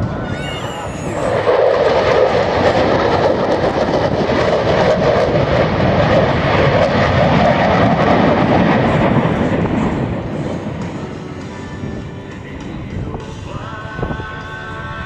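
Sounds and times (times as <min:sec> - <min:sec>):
jet engine roar flying past: 0:00.0 - 0:15.0.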